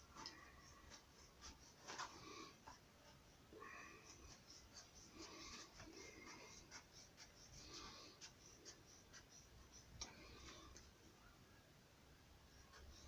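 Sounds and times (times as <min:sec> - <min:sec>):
faint scratching and rubbing: 0:00.0 - 0:11.4, 0:12.3 - 0:13.0.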